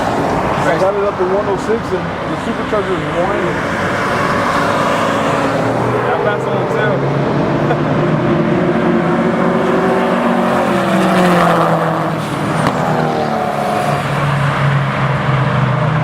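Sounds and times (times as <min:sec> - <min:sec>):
race car engines droning: 0:00.0 - 0:16.0
race car passing by: 0:02.4 - 0:16.0.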